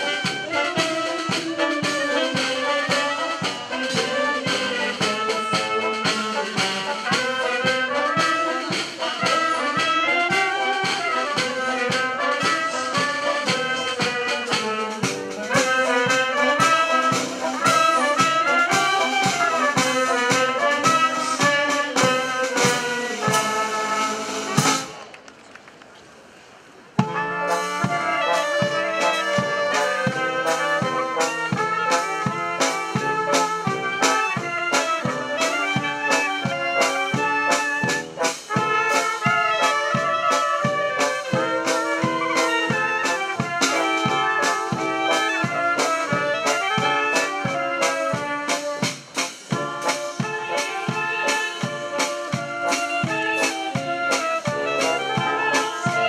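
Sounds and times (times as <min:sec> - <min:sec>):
steady drum beat: 0:00.0 - 0:25.0, 0:27.0 - 0:56.0
brass band playing a march: 0:00.0 - 0:25.1, 0:27.0 - 0:56.0.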